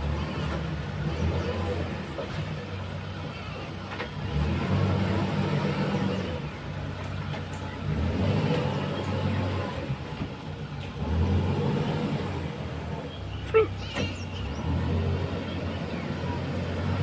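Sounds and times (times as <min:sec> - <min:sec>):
diesel engine revving under load: 0:00.0 - 0:17.0.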